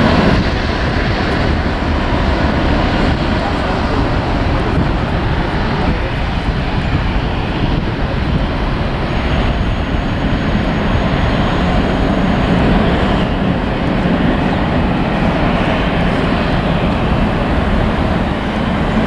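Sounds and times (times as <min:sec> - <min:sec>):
jet engines at takeoff: 0:00.0 - 0:19.0.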